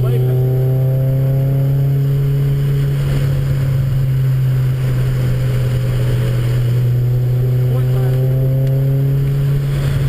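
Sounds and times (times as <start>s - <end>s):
car engine pulling: 0.0s - 10.0s
low cabin drone: 0.0s - 10.0s
road noise on wet track: 0.0s - 10.0s.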